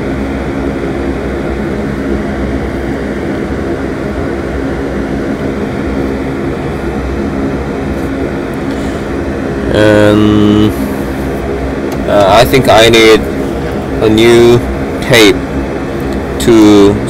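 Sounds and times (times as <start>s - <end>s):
small machine droning: 0.0s - 17.0s.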